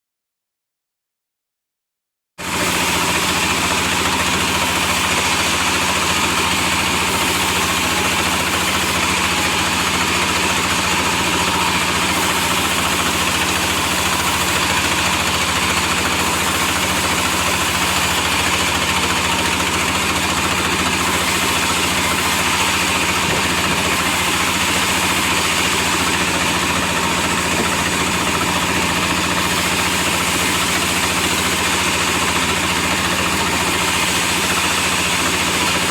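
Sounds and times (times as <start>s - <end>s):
sawmill machine drone: 2.4s - 35.9s.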